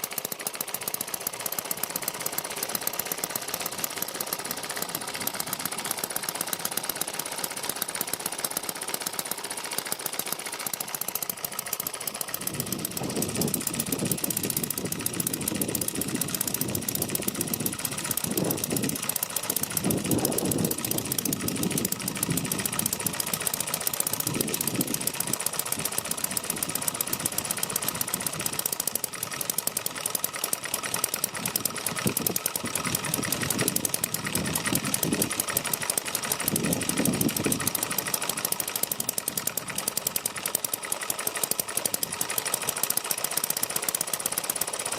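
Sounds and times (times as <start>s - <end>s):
model engine running: 0.0s - 44.9s.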